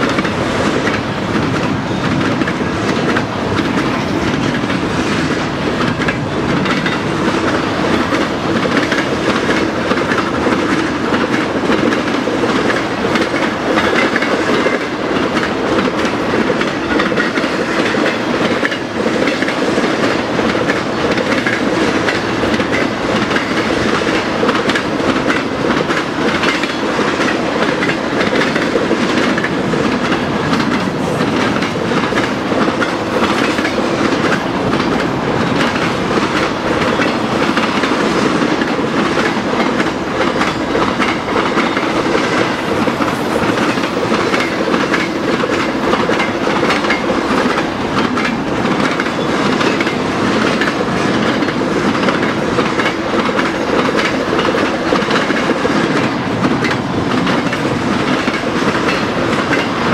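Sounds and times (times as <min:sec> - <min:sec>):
freight train cars rolling: 0:00.0 - 0:59.9
wheels clicking over rail joints: 0:00.0 - 0:59.9.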